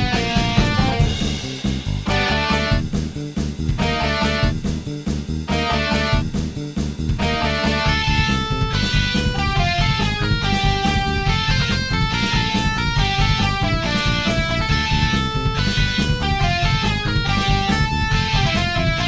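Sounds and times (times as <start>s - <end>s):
instrumental music with steady beat: 0.0s - 19.0s.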